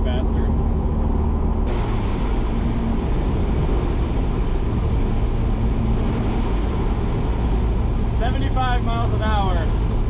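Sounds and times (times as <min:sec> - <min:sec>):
car engine drone: 0:00.0 - 0:10.0
road and wind noise: 0:00.0 - 0:10.0.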